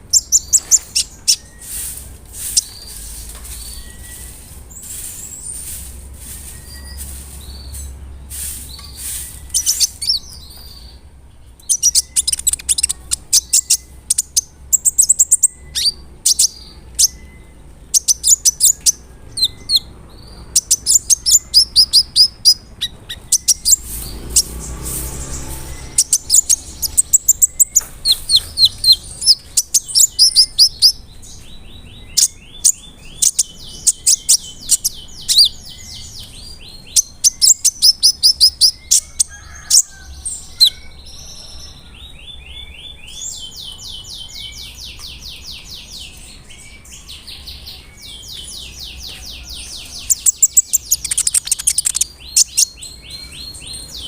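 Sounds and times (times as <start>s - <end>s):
sunbird singing: 0.0s - 54.0s.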